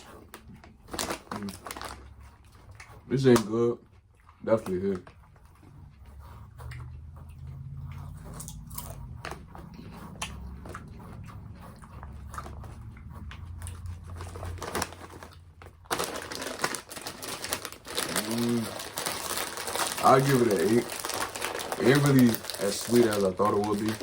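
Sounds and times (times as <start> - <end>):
person chewing crunchy popcorn: 0.0 - 24.0.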